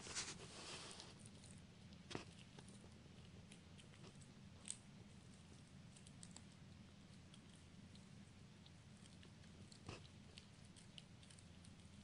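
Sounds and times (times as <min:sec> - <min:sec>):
puppy teeth clicking on chew: 0:01.3 - 0:12.0.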